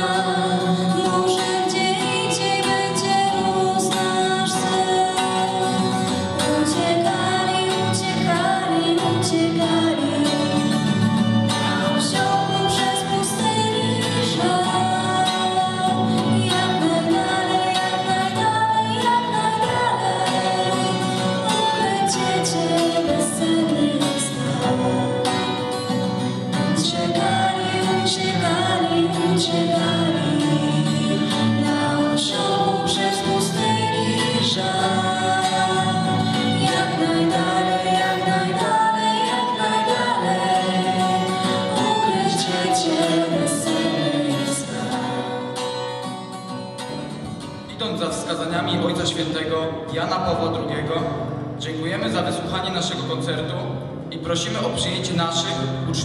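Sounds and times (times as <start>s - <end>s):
choir singing: 0.0s - 45.6s
woman singing: 0.0s - 45.7s
acoustic guitar: 0.0s - 56.0s
violin: 0.0s - 56.0s.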